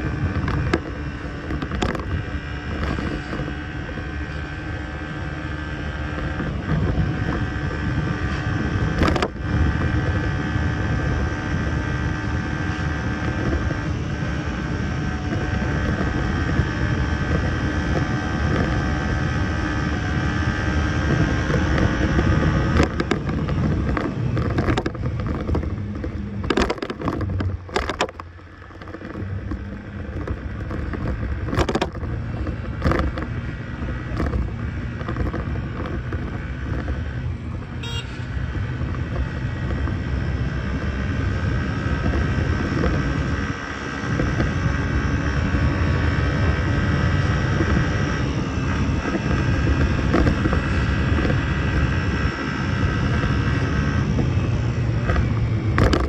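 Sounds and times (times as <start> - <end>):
motor scooter engine running: 0.0 - 56.0.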